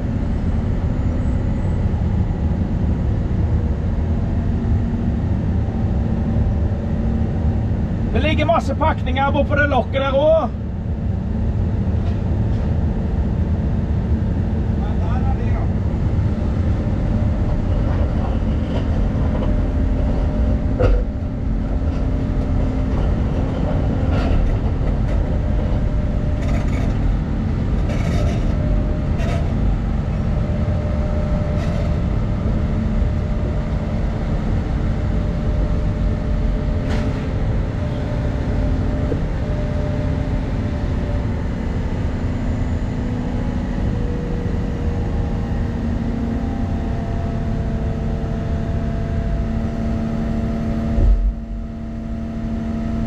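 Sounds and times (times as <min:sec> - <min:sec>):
excavator engine droning: 0:00.0 - 0:53.0.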